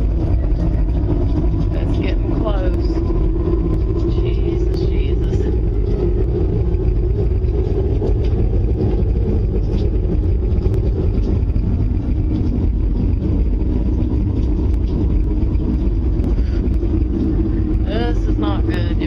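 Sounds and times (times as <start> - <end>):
loud low rumbling roar: 0.0 - 19.0.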